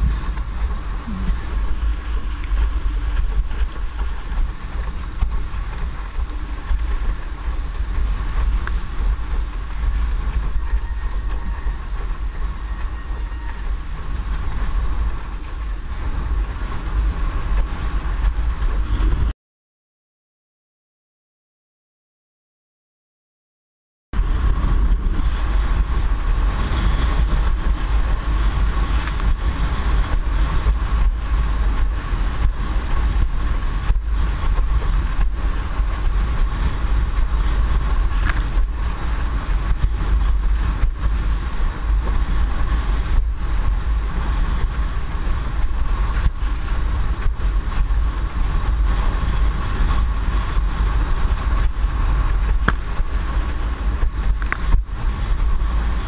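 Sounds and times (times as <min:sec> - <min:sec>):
wind buffeting microphone: 0:00.0 - 0:19.3, 0:24.2 - 0:56.0.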